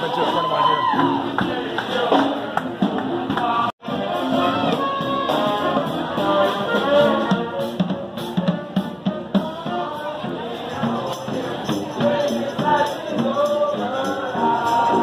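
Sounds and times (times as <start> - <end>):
brass band with drum kit: 0.0 - 15.0.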